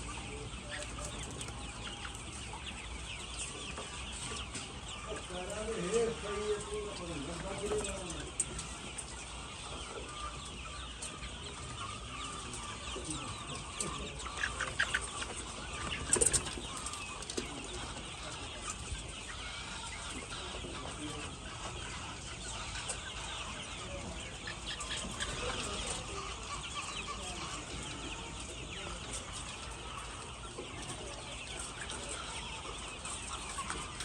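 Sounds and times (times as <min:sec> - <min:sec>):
hens clucking: 0:00.0 - 0:34.0.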